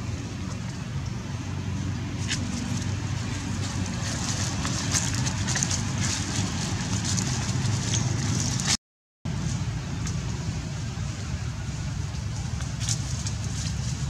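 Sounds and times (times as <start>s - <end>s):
steady low rumble: 0.0s - 14.0s
dry leaves crackling and rustling: 1.8s - 14.0s.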